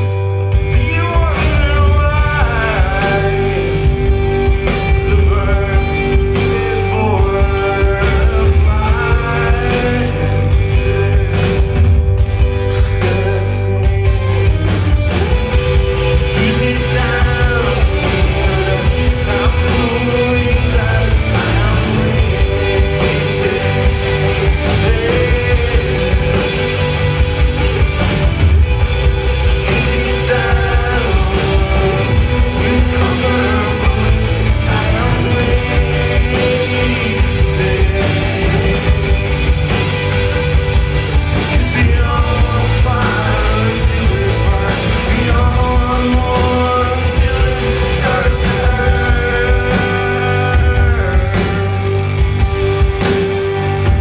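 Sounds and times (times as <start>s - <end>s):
man singing: 0.0s - 14.5s, 15.3s - 28.2s, 29.1s - 52.2s
bass guitar: 0.0s - 54.0s
drums: 0.0s - 54.0s
electric guitars: 0.0s - 54.0s.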